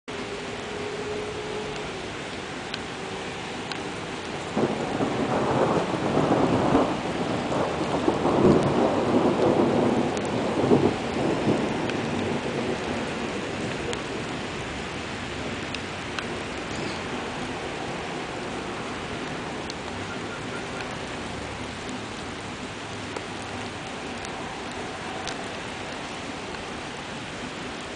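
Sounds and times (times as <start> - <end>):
rain falling on water: 0.1 - 27.9
thunder rumbling: 3.8 - 26.9.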